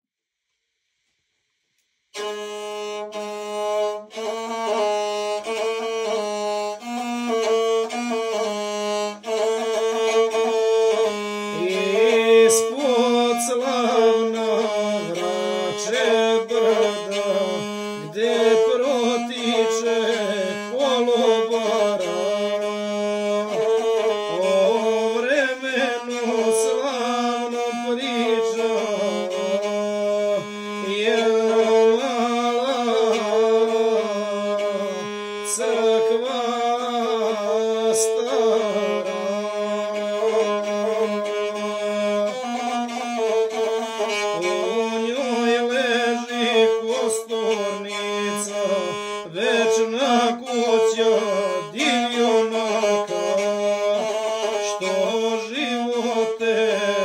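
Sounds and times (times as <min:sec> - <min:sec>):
bowed folk fiddle melody: 0:02.2 - 0:57.0.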